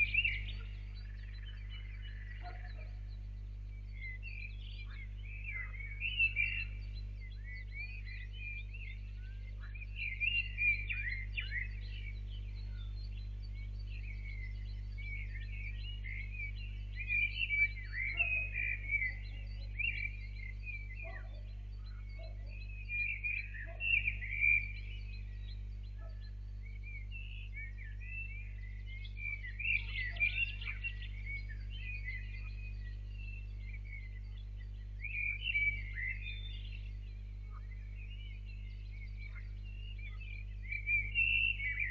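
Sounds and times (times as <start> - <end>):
birds chirping and whistling: 0.0 - 41.9
low electrical hum: 0.0 - 41.9.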